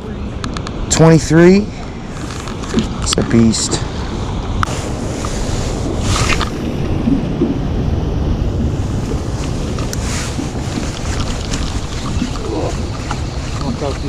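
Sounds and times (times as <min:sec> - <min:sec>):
wind buffeting microphone: 0:00.0 - 0:14.0
water lapping against boat: 0:01.2 - 0:14.0.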